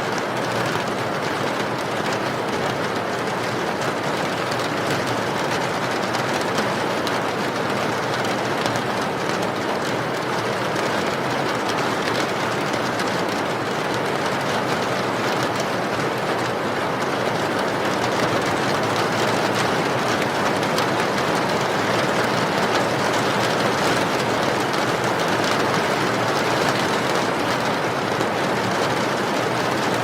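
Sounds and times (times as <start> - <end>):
rain patter: 0.0 - 30.0.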